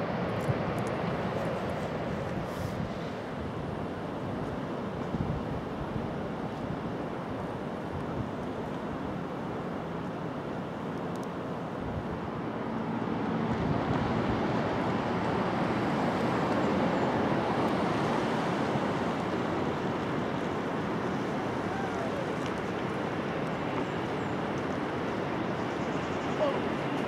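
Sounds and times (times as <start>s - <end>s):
rushing wind: 0.0s - 27.0s.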